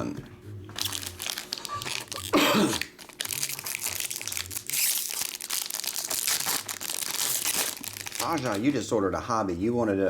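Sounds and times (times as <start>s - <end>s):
foil wrappers crinkling and tearing: 0.8s - 8.9s.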